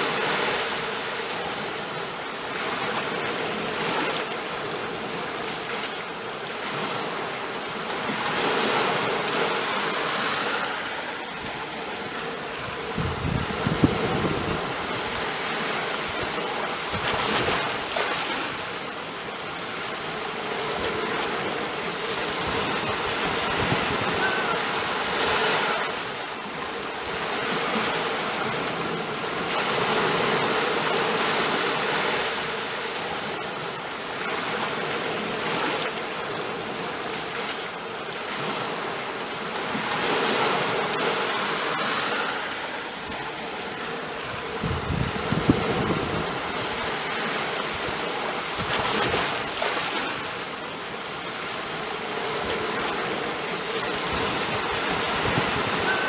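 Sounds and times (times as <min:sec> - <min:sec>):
sea waves washing in: 0:00.0 - 0:56.0.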